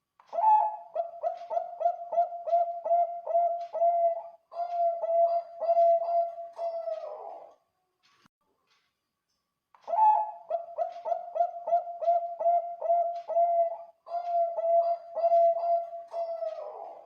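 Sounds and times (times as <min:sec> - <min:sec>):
dove cooing: 0:00.3 - 0:07.5, 0:09.9 - 0:17.0.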